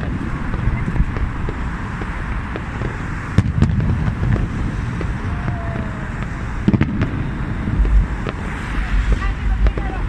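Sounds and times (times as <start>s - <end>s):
faint firework pops: 0.0s - 7.2s, 7.8s - 10.0s
firework bangs: 0.0s - 10.0s
steady low rumble: 0.0s - 10.0s.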